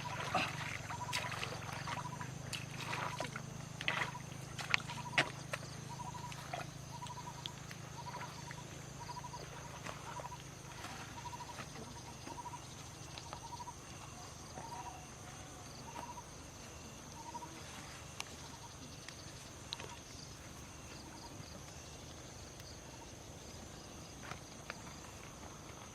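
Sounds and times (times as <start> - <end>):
high insect whine: 0.0 - 25.9.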